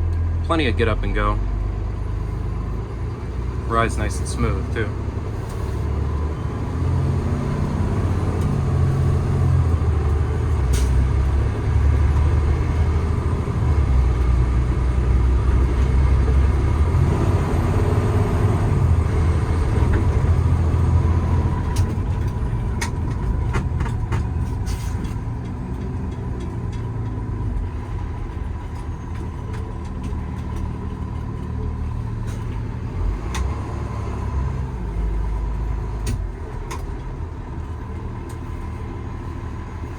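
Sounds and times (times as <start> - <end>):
truck diesel engine pulling: 0.0 - 39.9.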